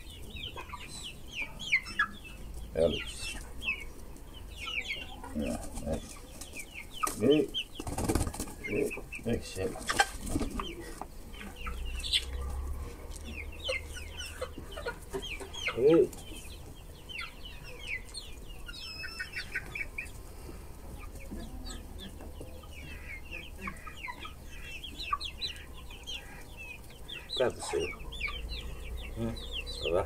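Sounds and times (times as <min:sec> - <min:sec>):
young chickens clucking and peeping: 0:00.0 - 0:30.0.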